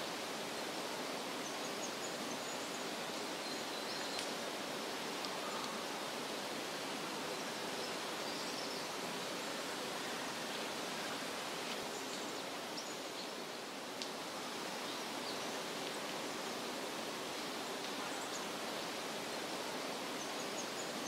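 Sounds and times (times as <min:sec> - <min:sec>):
outdoor ambience hiss: 0:00.0 - 0:21.0.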